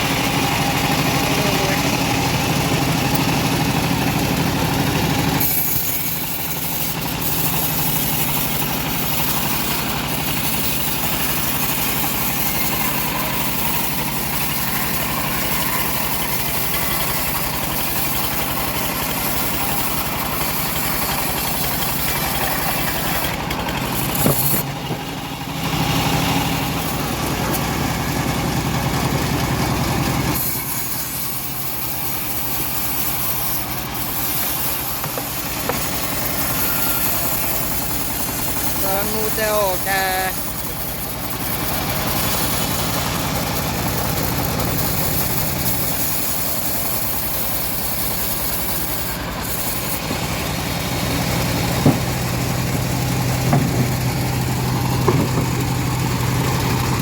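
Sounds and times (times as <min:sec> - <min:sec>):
sawmill engine drone with hiss: 0:00.0 - 0:57.0.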